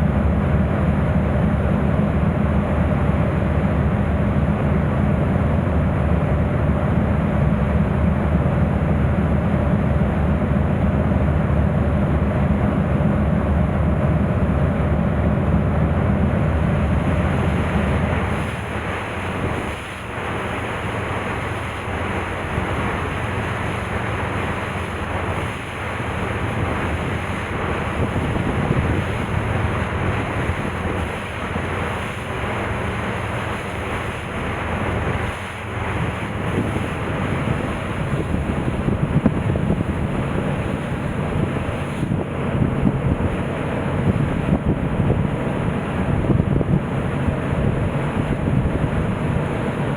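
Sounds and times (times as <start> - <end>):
sea water rushing along hull: 0.0 - 49.9
wind buffeting microphone: 8.6 - 49.9.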